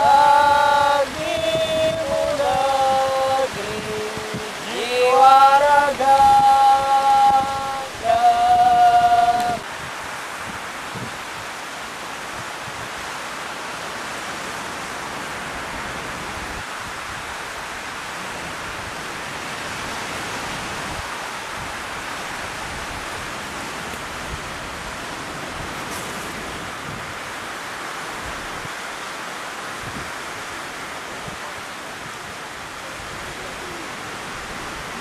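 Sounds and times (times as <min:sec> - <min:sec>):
sea surf rushing: 0:00.0 - 0:35.0.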